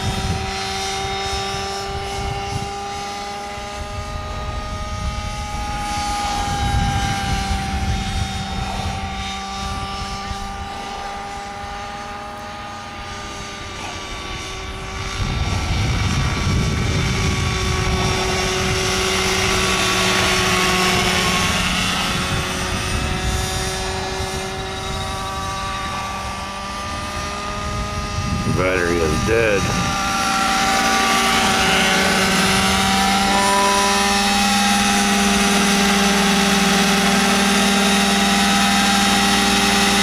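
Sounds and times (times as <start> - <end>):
model helicopter engine buzzing: 0.0 - 40.0.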